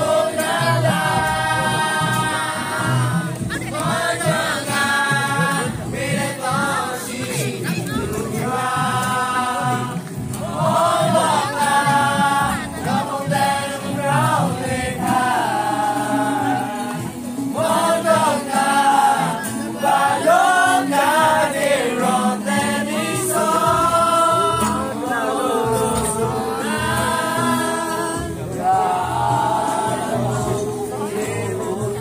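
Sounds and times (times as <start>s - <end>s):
group singing: 0.0s - 32.0s
strummed acoustic guitar: 0.0s - 32.0s
young man singing: 0.0s - 32.0s.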